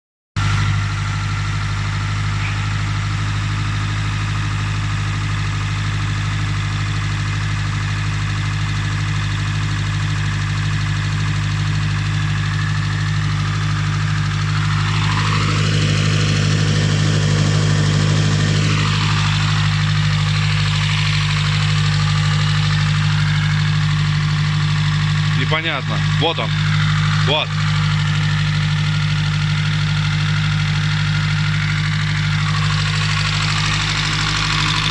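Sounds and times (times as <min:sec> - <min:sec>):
car engine running with knock: 0:00.4 - 0:34.9.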